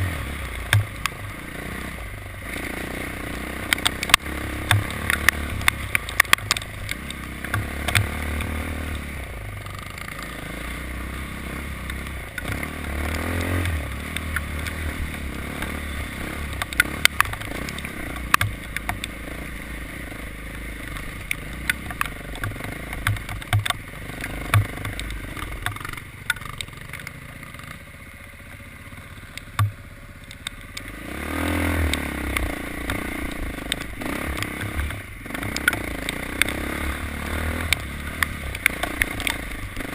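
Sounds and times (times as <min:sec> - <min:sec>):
engine revving: 0:00.0 - 0:27.8, 0:28.8 - 0:39.9
sharp clicks and knocks: 0:00.5 - 0:01.3, 0:03.3 - 0:10.3, 0:11.7 - 0:19.5, 0:20.1 - 0:27.2, 0:29.2 - 0:30.9, 0:31.8 - 0:39.9.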